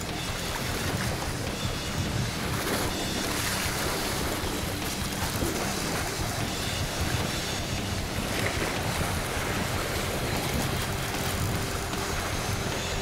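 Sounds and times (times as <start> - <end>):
sea waves on rocky shore: 0.0 - 13.0
wind buffeting microphone: 0.0 - 13.0.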